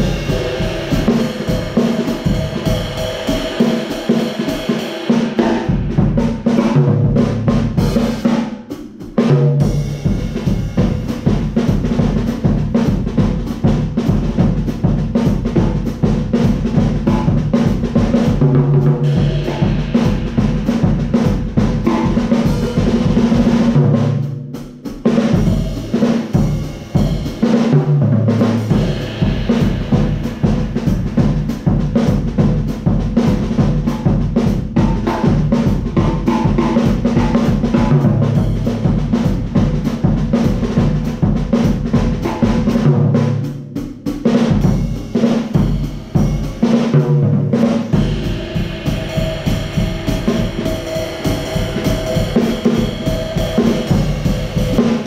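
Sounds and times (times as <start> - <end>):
acoustic drum kit groove: 0.0 - 55.0.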